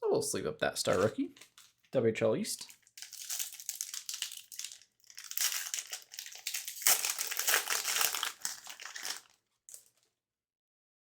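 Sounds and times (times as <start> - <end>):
plastic crinkling and rustling: 0.8 - 10.1.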